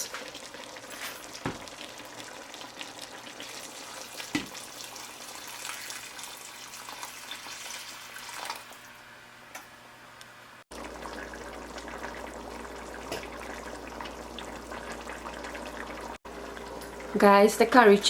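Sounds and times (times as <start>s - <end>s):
hot water pouring into pot: 0.0s - 8.9s, 10.7s - 17.2s.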